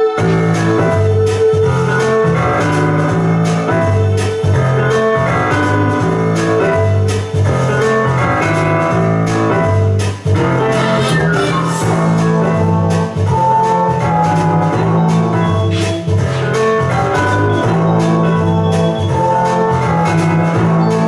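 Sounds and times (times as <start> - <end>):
instrumental music with beat: 0.0 - 21.0.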